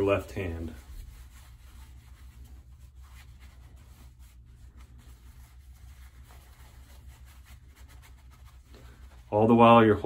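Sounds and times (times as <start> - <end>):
fabric rustling: 0.0 - 10.0
low steady hum: 0.0 - 10.0.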